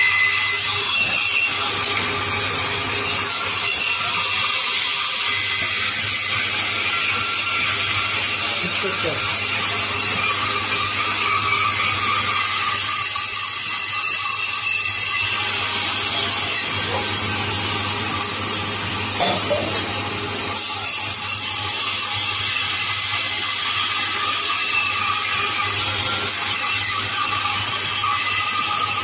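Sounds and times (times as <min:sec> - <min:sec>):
band saw motor hum: 0:00.0 - 0:29.0.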